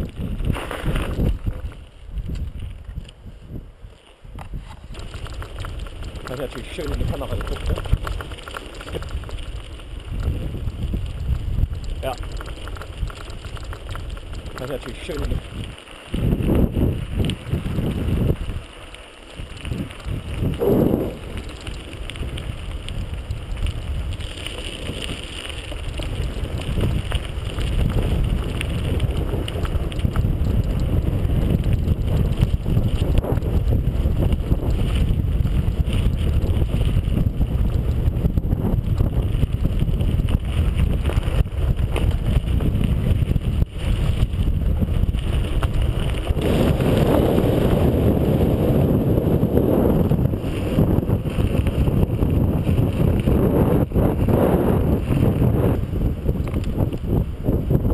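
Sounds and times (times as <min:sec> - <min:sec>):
bike rattling over rough track: 0:00.0 - 0:57.9
wind on camera microphone: 0:00.0 - 0:57.9.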